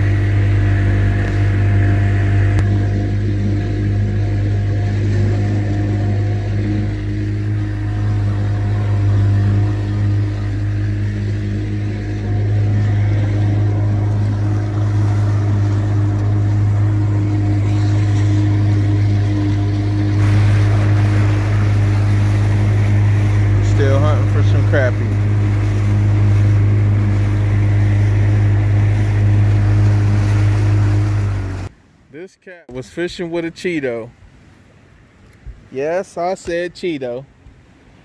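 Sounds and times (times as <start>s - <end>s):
outboard motor humming: 0.0s - 31.7s
water and wind rushing: 0.0s - 38.0s.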